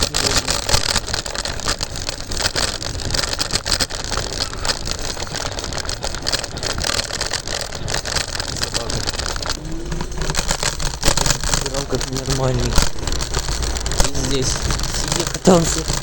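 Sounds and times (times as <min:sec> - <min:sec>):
scooter wheels rattling on pavement: 0:00.0 - 0:16.0.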